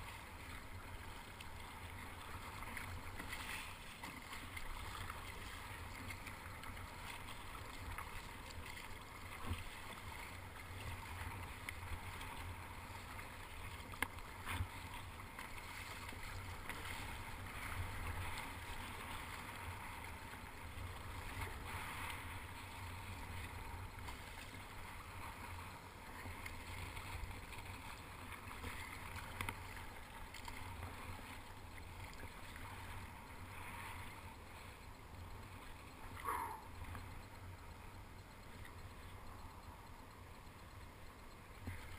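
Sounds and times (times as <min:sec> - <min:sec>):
paddle dipping through water: 0:00.0 - 0:41.9
water splashing around kayak: 0:00.0 - 0:41.9.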